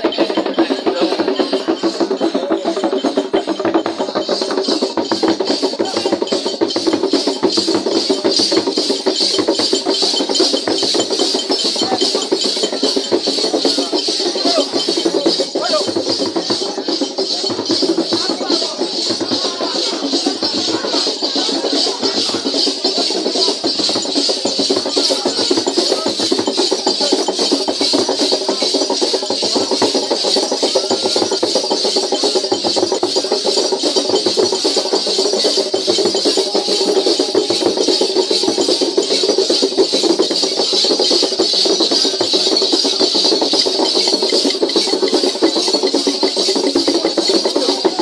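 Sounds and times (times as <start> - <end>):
crowd noise: 0.0 - 48.0
dance music with rattling percussion: 0.0 - 48.0.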